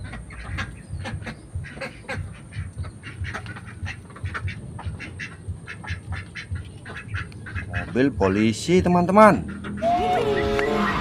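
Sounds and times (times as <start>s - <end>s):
birds calling short calls: 0.0s - 10.9s.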